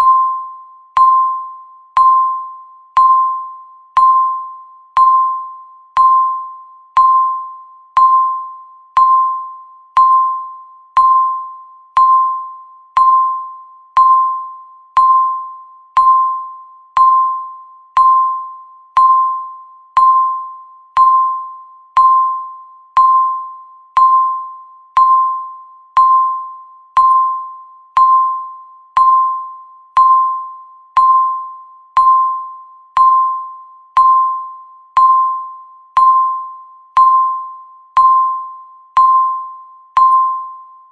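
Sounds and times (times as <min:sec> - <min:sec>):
countdown timer beeps: 0:00.0 - 0:40.9.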